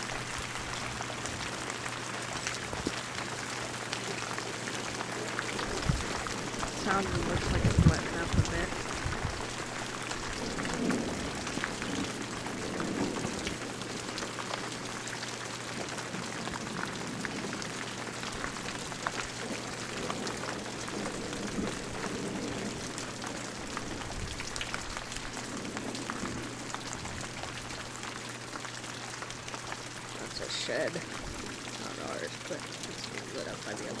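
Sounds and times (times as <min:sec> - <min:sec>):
hailstones ticking on hard surfaces: 0:00.0 - 0:34.0
rain hiss: 0:00.0 - 0:34.0.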